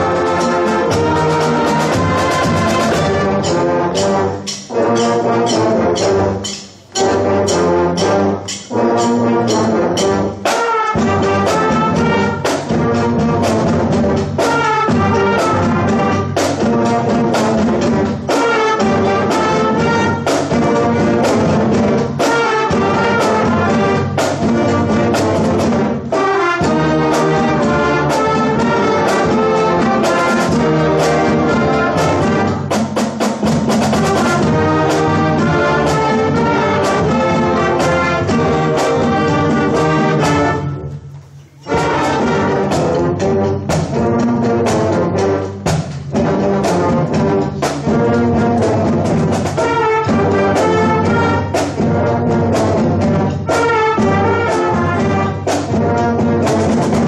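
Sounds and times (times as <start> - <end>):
concert band playing: 0.0 - 57.0.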